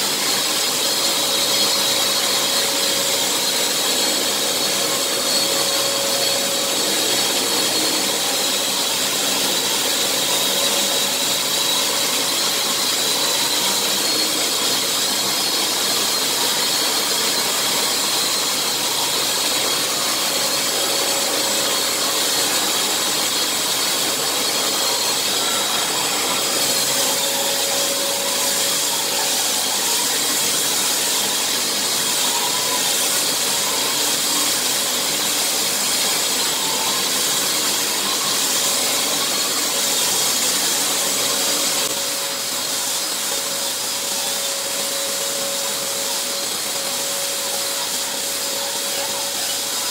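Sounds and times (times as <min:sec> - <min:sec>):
drywall sander running: 0:00.0 - 0:49.9
vacuum whirring: 0:00.0 - 0:49.9.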